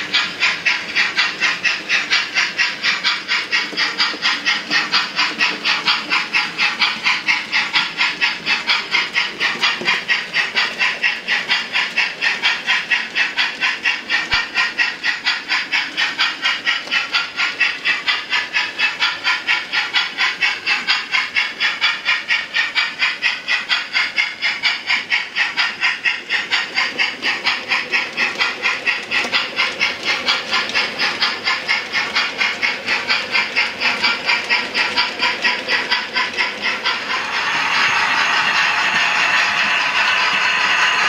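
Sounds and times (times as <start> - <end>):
model steam locomotive chuffing: 0.0 - 41.0.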